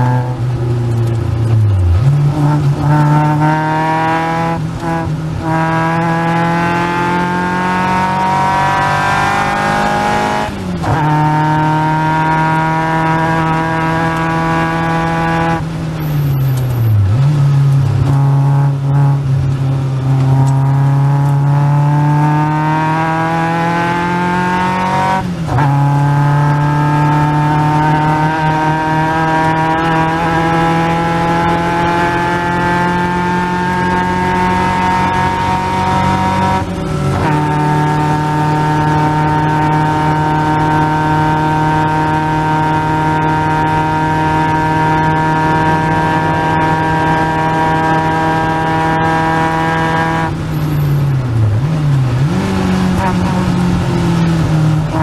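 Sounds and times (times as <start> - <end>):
car engine revving with gear changes: 0.0 - 55.0.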